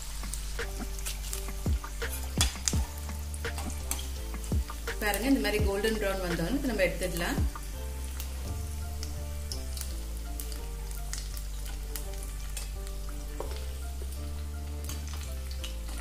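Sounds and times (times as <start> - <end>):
hot oil sizzling and crackling: 0.0 - 16.0
soft background music: 0.0 - 16.0.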